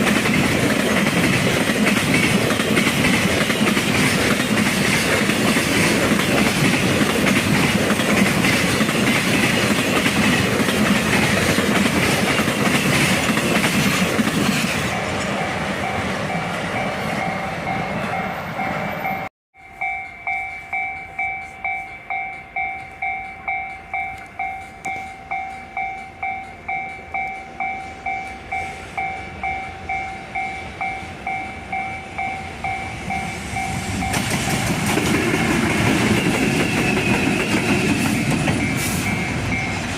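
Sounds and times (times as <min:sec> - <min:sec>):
freight train rolling past: 0:00.0 - 0:39.9
level-crossing warning bell: 0:00.0 - 0:39.9.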